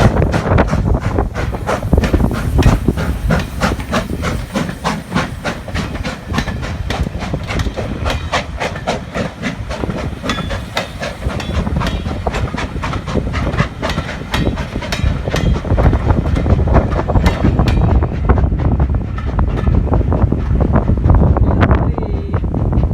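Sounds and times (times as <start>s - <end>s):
low train rumble: 0.0s - 22.9s
train wheels clattering: 0.0s - 22.9s.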